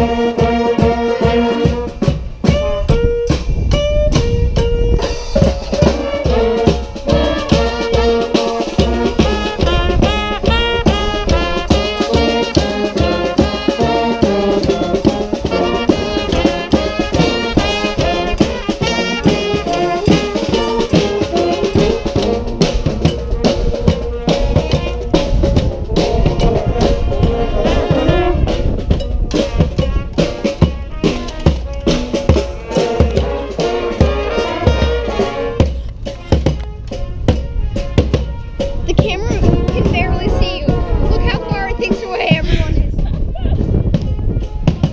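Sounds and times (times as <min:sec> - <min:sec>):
brass band playing: 0:00.0 - 0:43.0, 0:44.0 - 0:44.9.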